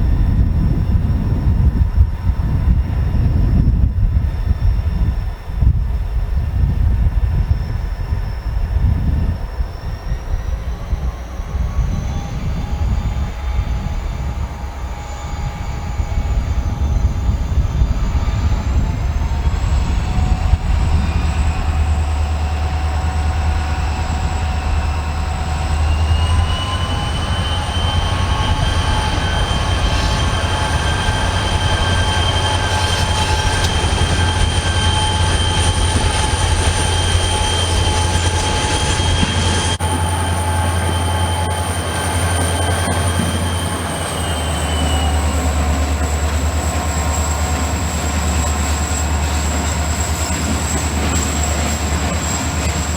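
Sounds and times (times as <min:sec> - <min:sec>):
diesel locomotives rumbling: 0:00.0 - 0:52.9
high-pitched squeal: 0:04.2 - 0:52.9.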